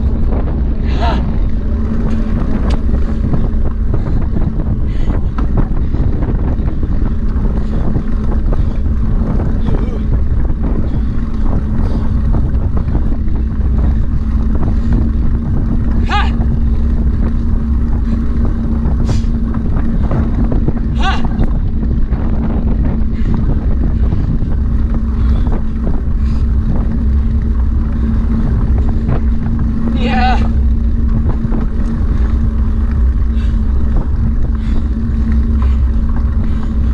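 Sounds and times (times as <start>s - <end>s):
vehicle motor hum: 0.0s - 36.9s
wind rumbling on microphone: 0.0s - 36.9s.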